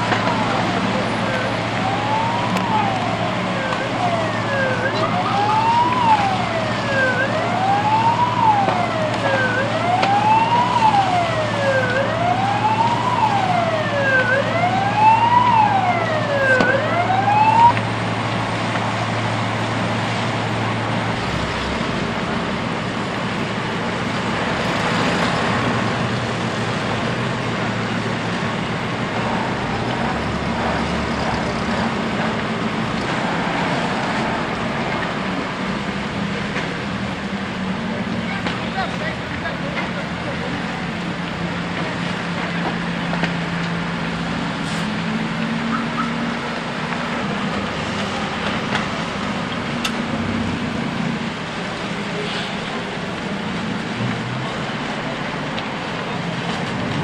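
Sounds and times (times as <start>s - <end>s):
emergency vehicle siren wailing: 0.0s - 57.0s
rumble of vehicles: 0.0s - 57.0s.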